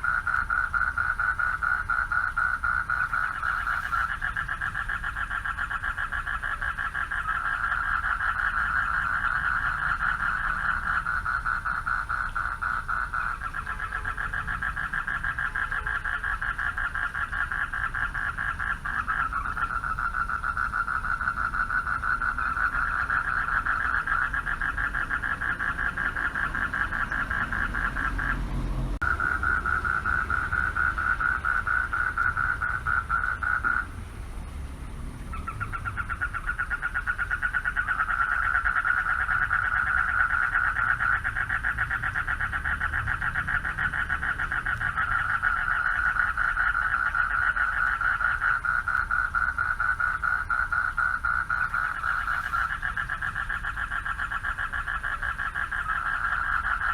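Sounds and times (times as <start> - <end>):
frog chorus trilling: 0.0 - 34.0, 35.2 - 56.9.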